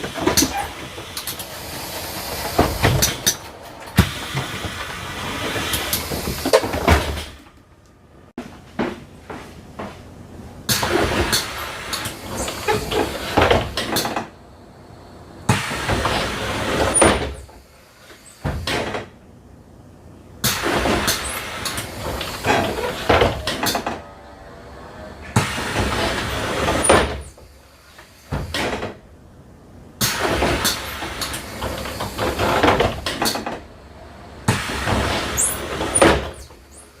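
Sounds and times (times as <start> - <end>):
bus doors operating: 0.0 - 19.2, 20.4 - 37.0.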